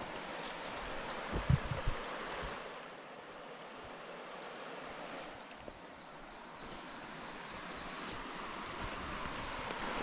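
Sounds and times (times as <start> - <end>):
fast-flowing stream rushing: 0.0 - 10.0.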